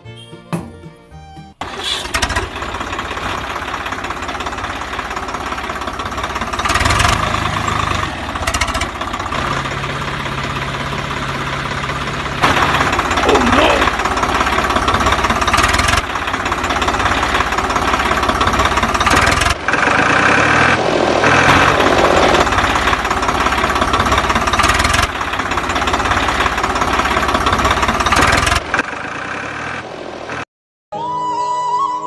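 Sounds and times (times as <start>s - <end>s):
small engine chugging: 1.6s - 30.4s.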